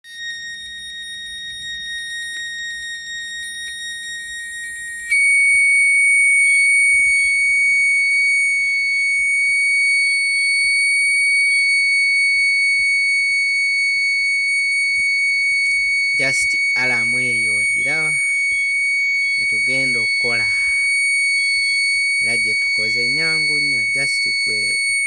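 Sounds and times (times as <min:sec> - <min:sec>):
high-pitched alarm buzzer tone: 0:00.0 - 0:25.0.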